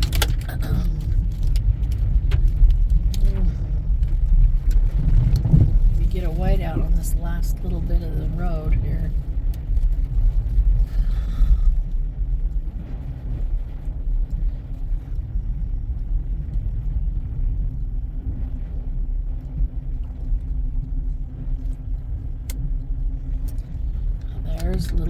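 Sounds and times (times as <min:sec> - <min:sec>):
car engine and tyres rumble: 0:00.0 - 0:25.0
faint steady hum: 0:00.0 - 0:25.0.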